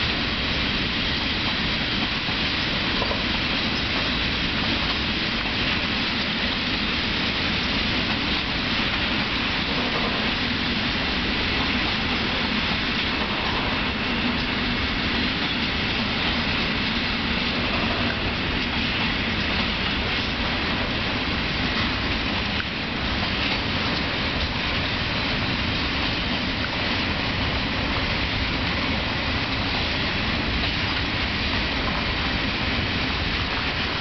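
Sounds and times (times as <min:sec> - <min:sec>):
freight train wheels on rails: 0:00.0 - 0:34.0.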